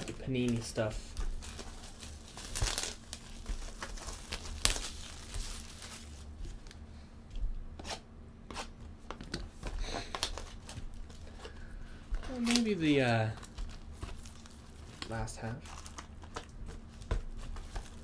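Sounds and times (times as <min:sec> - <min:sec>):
plastic shrink wrap crinkling: 0:00.0 - 0:06.8, 0:09.8 - 0:18.0.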